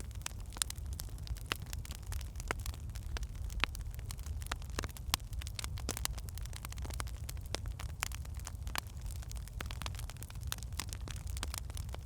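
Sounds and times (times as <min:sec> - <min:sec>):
fireplace wood crackling and popping: 0:00.0 - 0:12.0.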